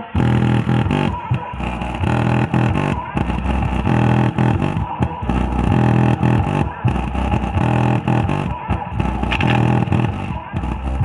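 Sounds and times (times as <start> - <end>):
bass-heavy music through subwoofer: 0.0 - 11.0.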